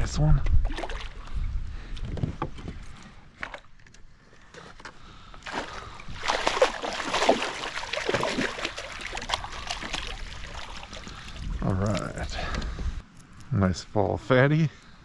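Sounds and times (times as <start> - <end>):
water splashing and sloshing: 0.4 - 13.0.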